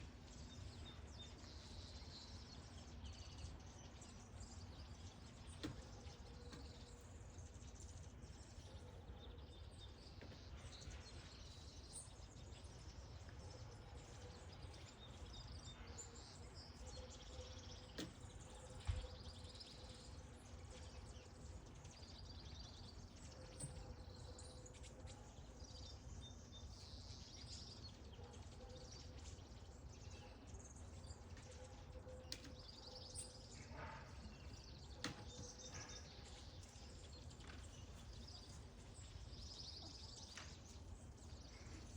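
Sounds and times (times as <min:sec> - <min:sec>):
faint bird chirps: 0:00.0 - 0:41.9.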